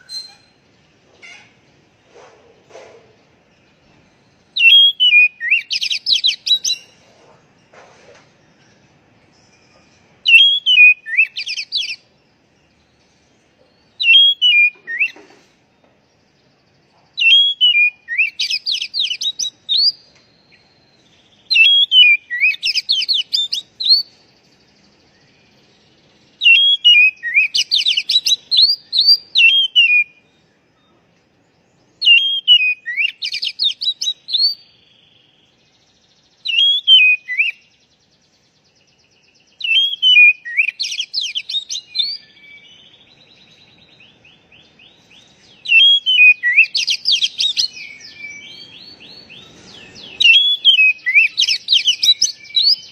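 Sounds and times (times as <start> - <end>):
magpie-robin singing: 0.0 - 2.0, 3.2 - 7.1, 8.4 - 52.9.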